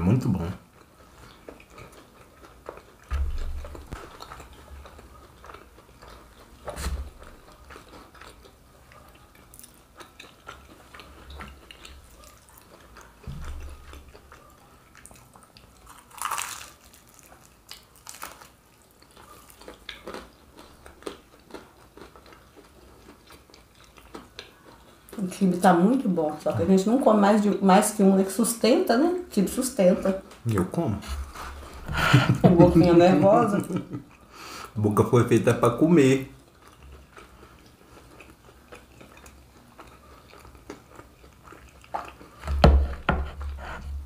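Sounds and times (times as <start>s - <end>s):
chewing crunchy pastry: 0.0s - 44.0s.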